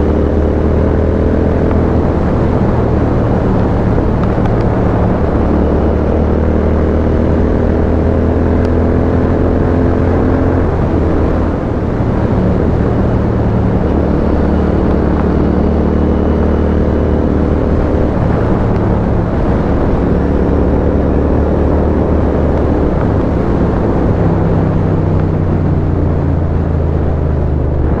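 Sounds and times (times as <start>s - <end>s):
motorcycle engine while riding: 0.0s - 28.0s.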